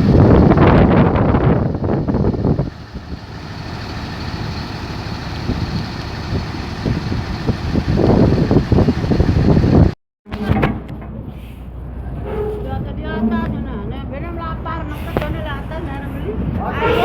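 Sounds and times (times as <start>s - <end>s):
bus engine humming: 0.0s - 10.0s, 11.8s - 17.0s.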